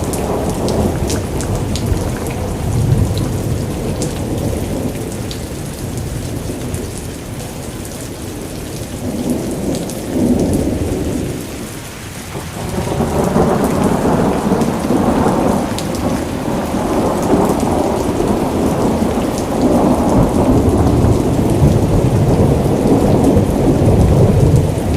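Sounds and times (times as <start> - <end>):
deep rolling thunder: 0.0 - 7.0, 9.0 - 24.9
steady rain falling: 0.0 - 24.9.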